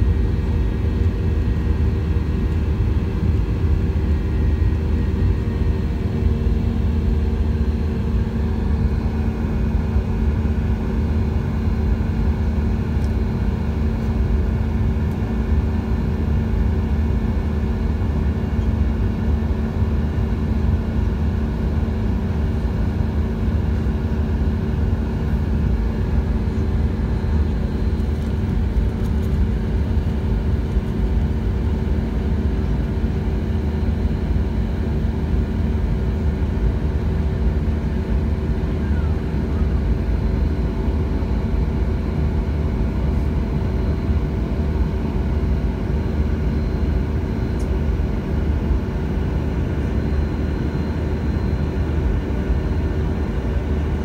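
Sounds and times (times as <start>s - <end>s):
faint hum tones: 0.0s - 54.0s
jet engine rumble in cabin: 0.0s - 54.0s.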